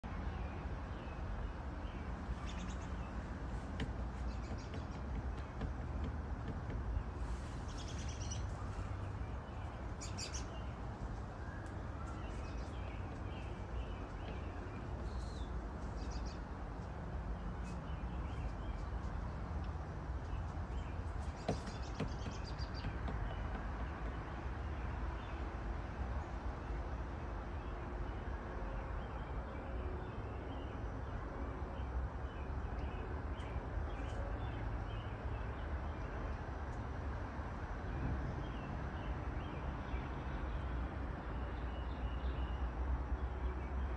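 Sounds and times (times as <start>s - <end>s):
songbirds chirping: 0.1s - 43.9s.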